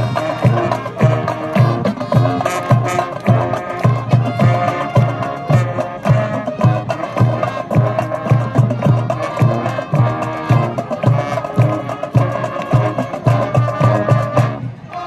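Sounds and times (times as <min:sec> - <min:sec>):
steady drum beat: 0:00.0 - 0:14.6
marching band playing: 0:00.0 - 0:15.0.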